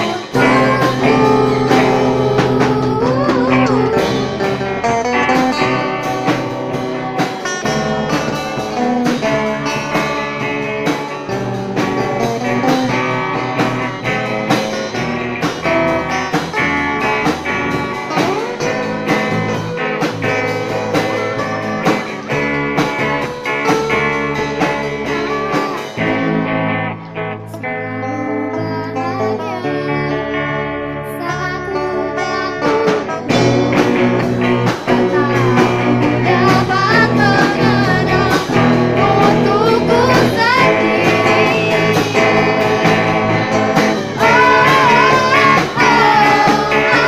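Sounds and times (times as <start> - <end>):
drum kit beat: 0.0 - 26.7, 32.7 - 47.0
bass guitar: 0.0 - 47.0
electric guitars: 0.0 - 47.0.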